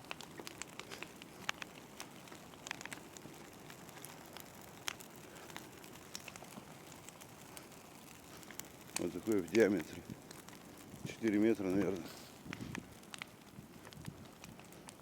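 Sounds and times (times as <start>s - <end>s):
bonfire crackling and popping: 0.0s - 15.0s
low fire hiss: 0.0s - 15.0s.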